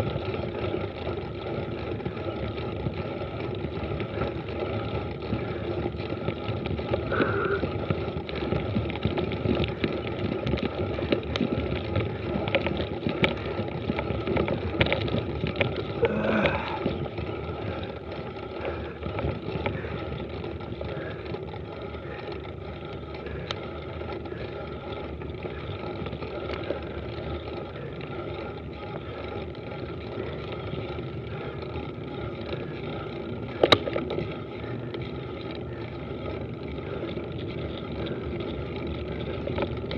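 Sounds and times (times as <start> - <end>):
bike rattling: 0.0 - 39.9
bike tyres rumbling on dirt: 0.0 - 39.9.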